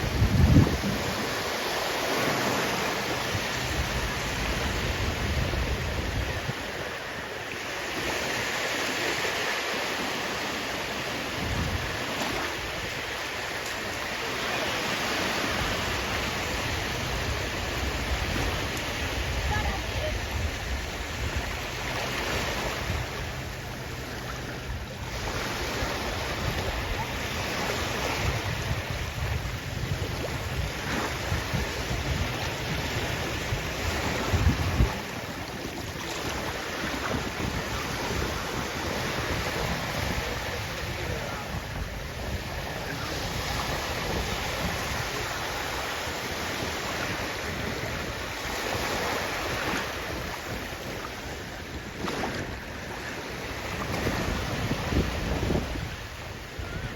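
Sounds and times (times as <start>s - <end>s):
sea waves washing in: 0.0s - 56.9s.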